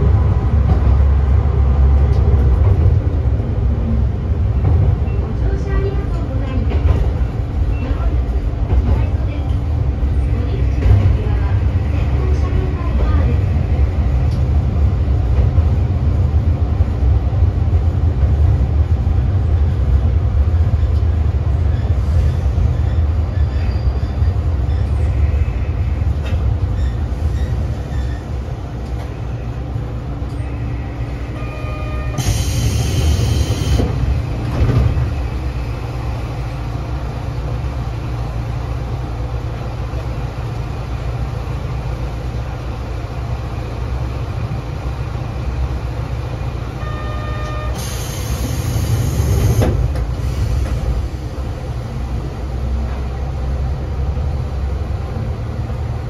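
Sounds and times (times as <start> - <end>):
railcar engine and wheels rumbling: 0.0 - 56.0.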